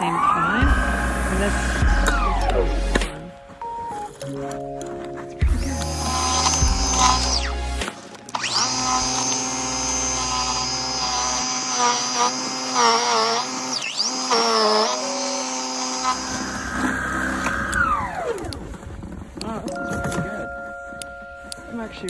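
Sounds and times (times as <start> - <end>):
snow shovel motor whining: 0.0 - 22.0.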